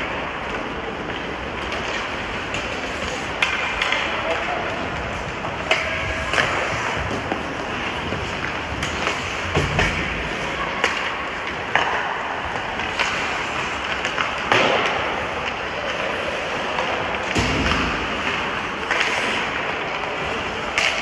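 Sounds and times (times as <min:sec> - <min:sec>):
hockey sticks hitting puck: 0:00.0 - 0:21.0
skates scraping on ice: 0:00.0 - 0:21.0.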